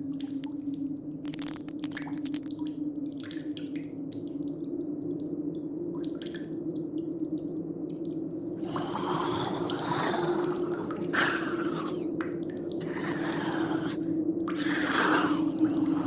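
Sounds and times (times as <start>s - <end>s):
water dripping: 0.0s - 16.0s.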